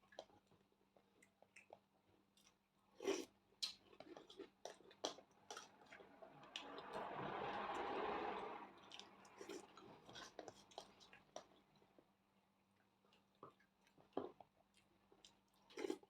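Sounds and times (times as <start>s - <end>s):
person chewing food: 0.0s - 6.8s, 8.8s - 16.0s.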